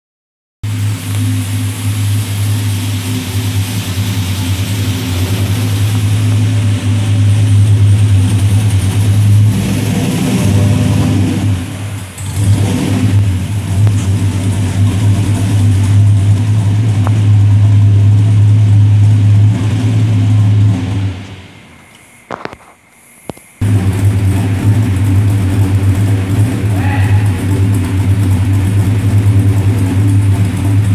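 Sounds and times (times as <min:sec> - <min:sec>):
truck engine idling: 0:00.6 - 0:30.9.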